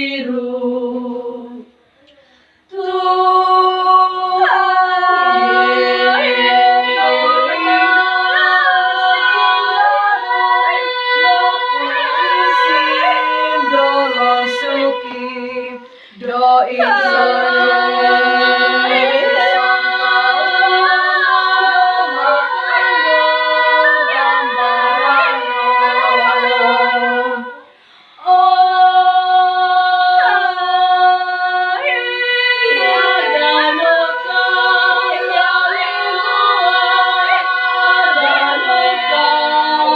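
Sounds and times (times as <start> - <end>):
group of voices chanting: 2.7 - 39.9.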